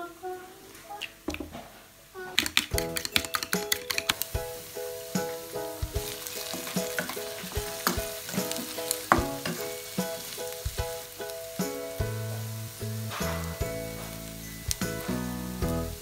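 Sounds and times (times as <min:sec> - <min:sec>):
egg sizzling in hot oil: 0:02.4 - 0:16.0.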